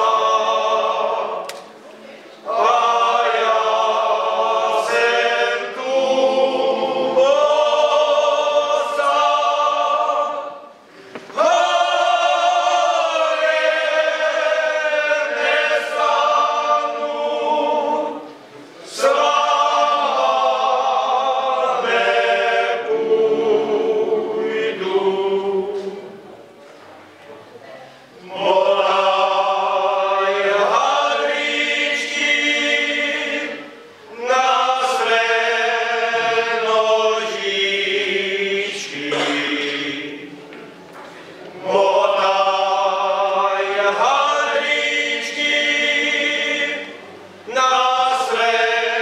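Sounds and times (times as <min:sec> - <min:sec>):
men's choir singing a cappella: 0:00.0 - 0:01.7, 0:02.4 - 0:26.2, 0:28.2 - 0:40.6, 0:41.3 - 0:49.0.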